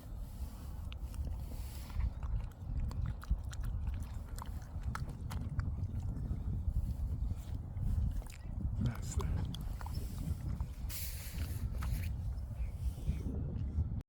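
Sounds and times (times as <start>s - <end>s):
dog chewing and crunching bread: 0.0s - 12.7s
wind rumble on microphone: 0.0s - 14.0s.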